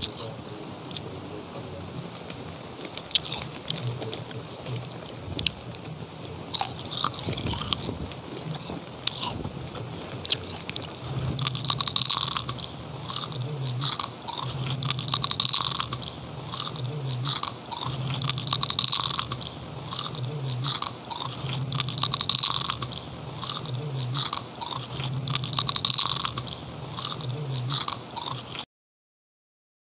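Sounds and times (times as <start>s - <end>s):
crunching crackers: 0.0s - 28.6s.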